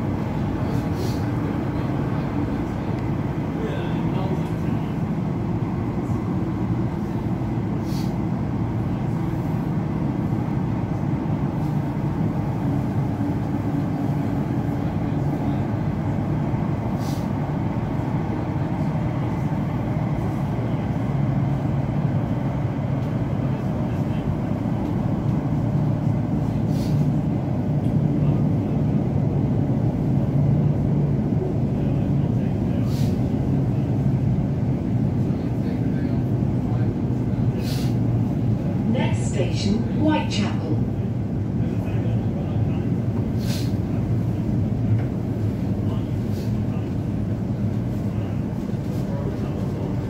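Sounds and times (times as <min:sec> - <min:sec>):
train rumbling through tunnel: 0:00.0 - 0:50.0.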